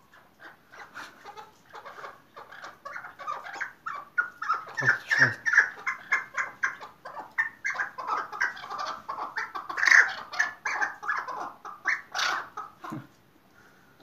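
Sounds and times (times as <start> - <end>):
partridge calling: 0.1 - 13.0.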